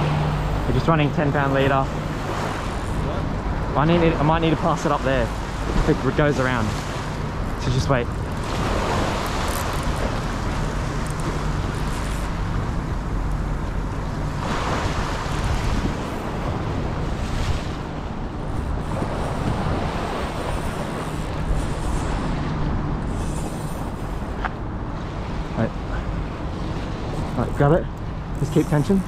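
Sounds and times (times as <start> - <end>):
waves splashing against seawall: 0.0 - 29.0
wind buffeting microphone: 0.0 - 29.0.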